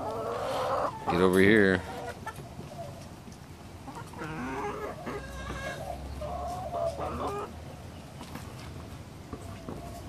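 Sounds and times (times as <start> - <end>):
hens clucking and calling: 0.0 - 10.0.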